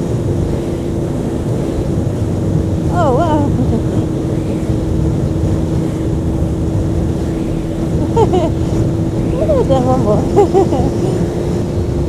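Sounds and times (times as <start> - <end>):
motorcycle engine cruising: 0.0 - 12.0
wind noise on microphone: 0.0 - 12.0.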